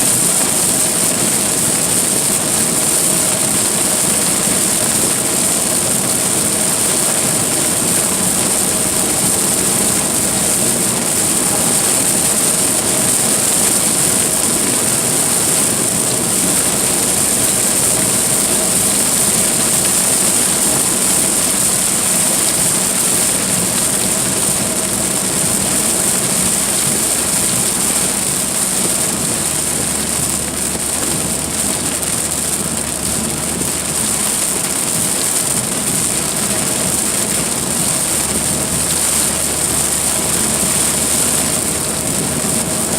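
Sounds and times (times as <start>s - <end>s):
car engine hum: 0.0s - 42.9s
heavy rain: 0.0s - 42.9s
wet road noise: 0.0s - 42.9s.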